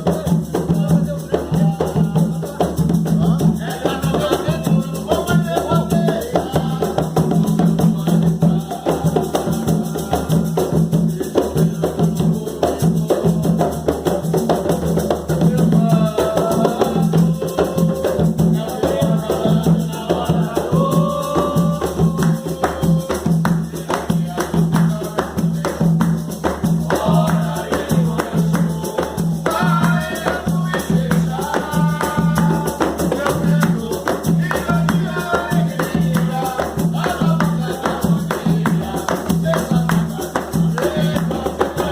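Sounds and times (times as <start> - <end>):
hand drums: 0.0 - 41.9
people singing: 0.0 - 41.9
shaker: 0.0 - 41.9.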